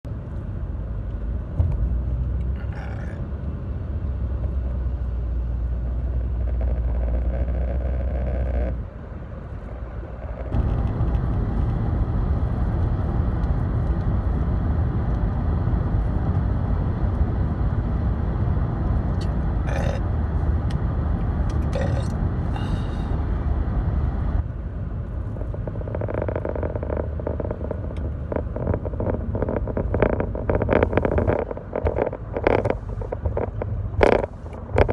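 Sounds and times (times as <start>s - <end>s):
car rumble from inside cabin: 0.0s - 34.9s.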